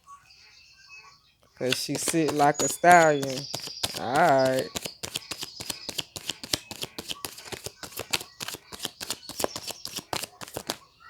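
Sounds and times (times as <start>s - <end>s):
cards being shuffled by hand: 1.6s - 10.8s.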